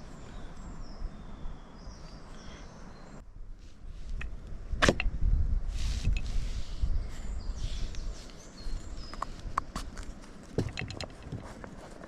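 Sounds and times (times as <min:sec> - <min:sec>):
forest ambience: 0:00.0 - 0:12.0.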